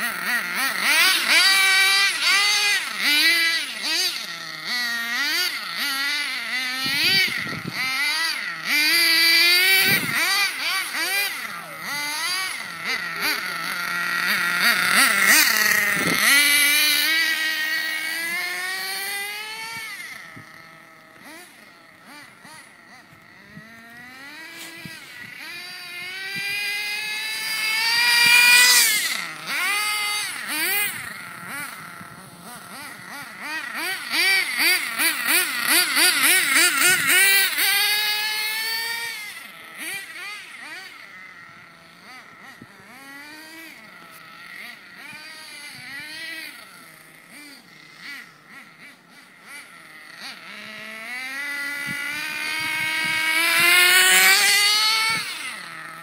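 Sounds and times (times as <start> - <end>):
rc truck engine revving: 0.0 - 56.0.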